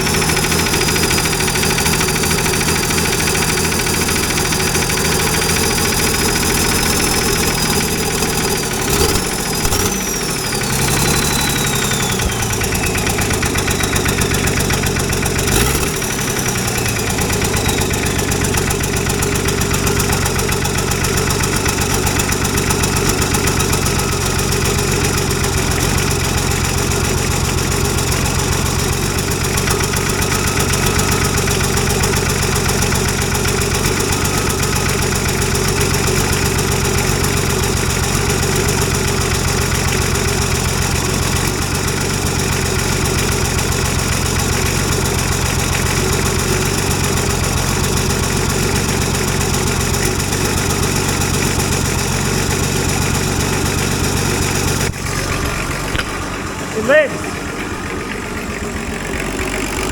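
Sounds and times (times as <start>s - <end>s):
diesel engine idling with clatter: 0.0s - 59.9s
engine revving: 0.0s - 59.9s.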